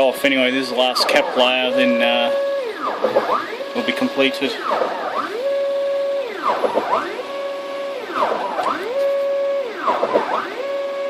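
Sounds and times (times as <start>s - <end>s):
printer stepper motors whining: 0.0s - 11.0s.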